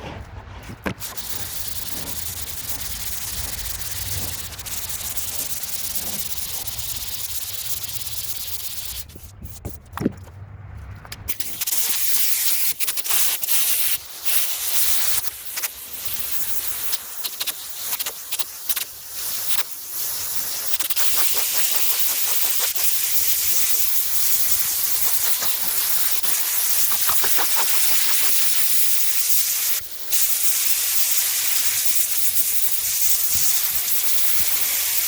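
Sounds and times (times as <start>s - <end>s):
sandpaper scraping steel: 0.0s - 10.0s, 11.2s - 29.6s.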